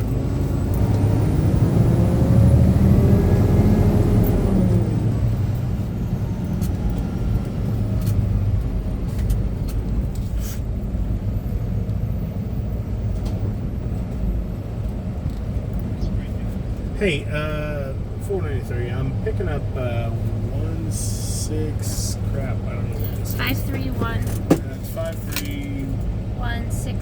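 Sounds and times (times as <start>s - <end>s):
diesel truck engine running: 0.0s - 27.0s
road noise: 0.0s - 27.0s.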